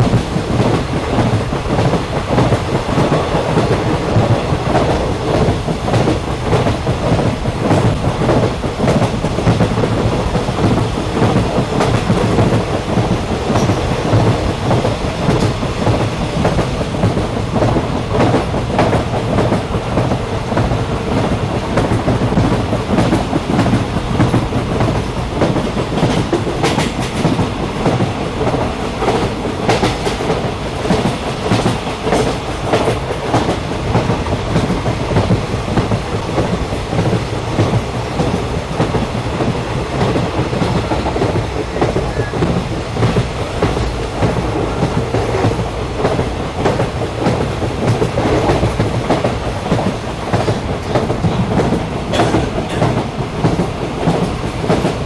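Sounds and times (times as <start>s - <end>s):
moving train rumble and rattle: 0.0s - 55.0s
wheels clacking on track: 0.0s - 55.0s.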